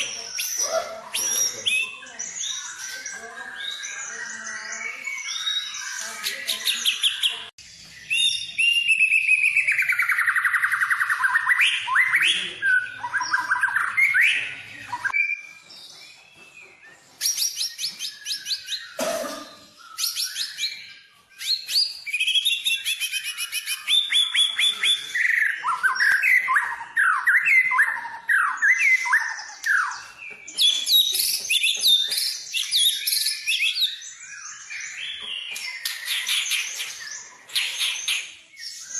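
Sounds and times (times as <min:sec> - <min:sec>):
songbird singing whistles and trills: 0:00.0 - 0:19.1, 0:19.8 - 0:38.9.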